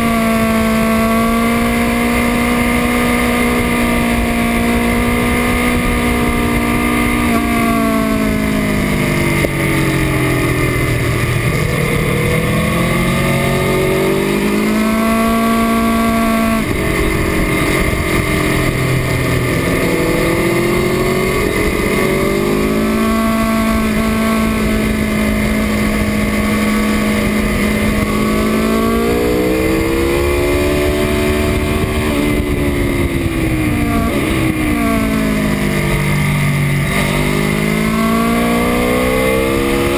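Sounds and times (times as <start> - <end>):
motorcycle engine revving: 0.0 - 39.9
rushing wind: 0.0 - 39.9.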